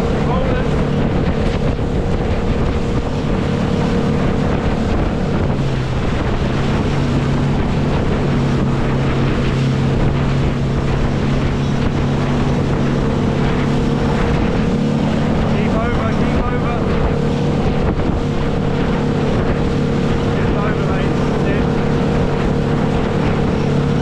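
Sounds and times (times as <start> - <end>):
motorboat engine: 0.0 - 24.0
rushing water and spray: 0.0 - 24.0
wind buffeting microphone: 0.0 - 24.0.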